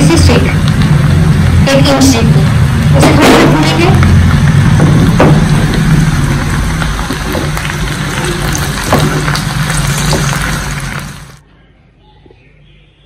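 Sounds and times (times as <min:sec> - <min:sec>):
onions sizzling in hot oil: 0:00.0 - 0:11.4
low steady hum: 0:00.0 - 0:12.0.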